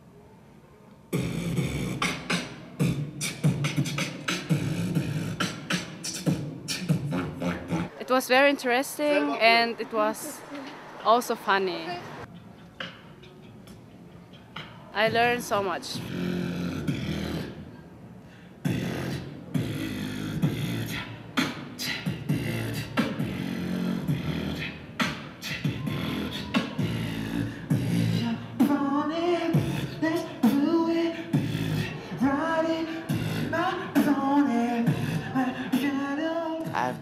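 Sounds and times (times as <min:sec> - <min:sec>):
beatboxing: 0:01.1 - 0:08.0, 0:12.2 - 0:17.8, 0:18.6 - 0:37.0.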